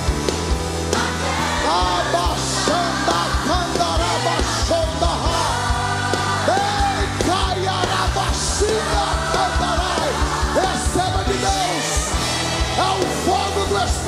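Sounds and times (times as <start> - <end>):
drums: 0.0 - 14.0
worship band playing: 0.0 - 14.0
many voices singing: 0.7 - 14.0.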